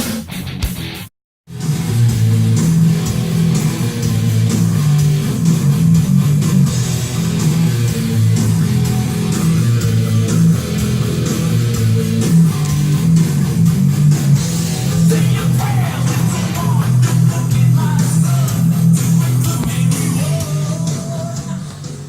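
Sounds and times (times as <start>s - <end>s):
rock music with guitar and bass: 0.0s - 22.0s.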